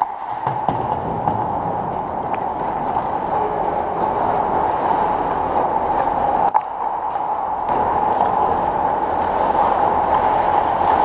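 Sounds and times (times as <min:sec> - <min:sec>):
ice arena background noise: 0:00.0 - 0:11.0.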